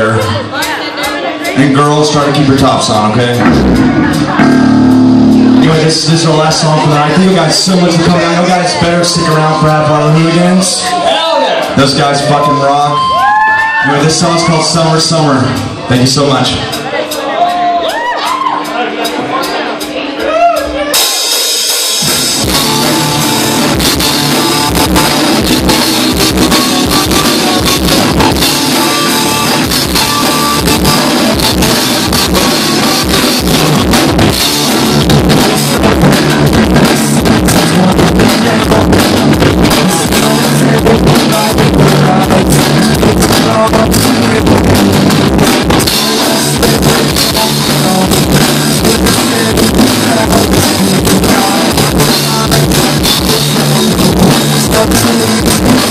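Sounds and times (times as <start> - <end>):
drum kit beat: 0.0 - 55.9
guitars: 0.0 - 55.9
rock band playing live: 0.0 - 55.9.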